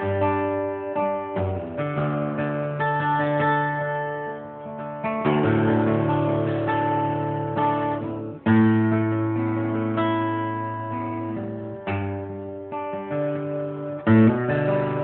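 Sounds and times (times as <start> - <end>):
acoustic guitar played solo: 0.0 - 15.0.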